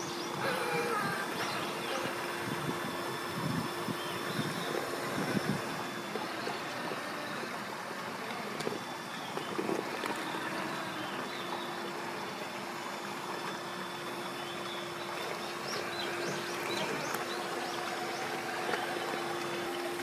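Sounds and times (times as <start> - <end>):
toy car electric motor whining: 0.0 - 20.0.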